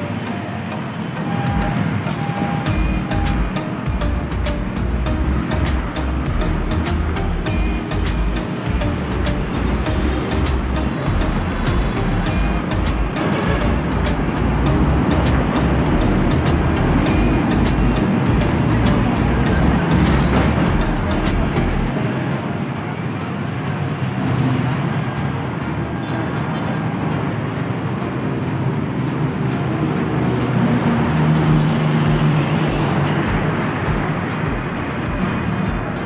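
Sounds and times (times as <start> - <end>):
engine hum: 0.0 - 36.0
street traffic: 0.0 - 36.0.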